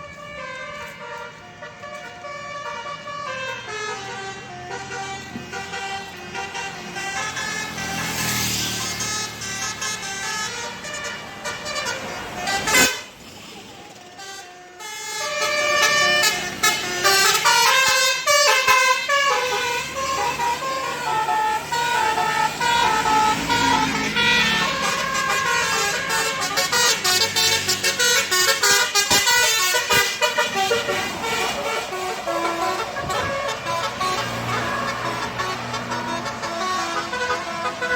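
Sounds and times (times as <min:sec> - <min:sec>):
bus musical horn: 0:00.0 - 0:13.3, 0:13.9 - 0:37.9.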